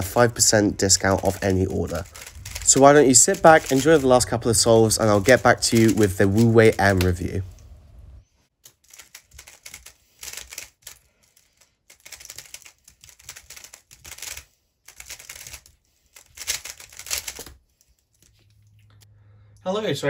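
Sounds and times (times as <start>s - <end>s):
speedcube plastic clicking: 0.0s - 7.7s, 8.6s - 17.6s.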